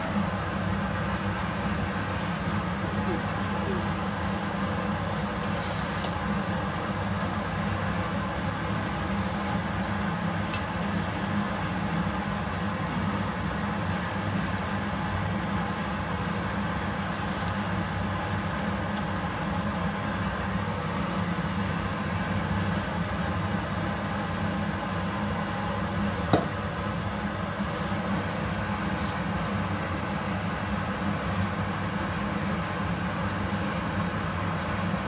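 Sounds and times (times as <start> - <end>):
pot boiling on gas stove: 0.0 - 35.0.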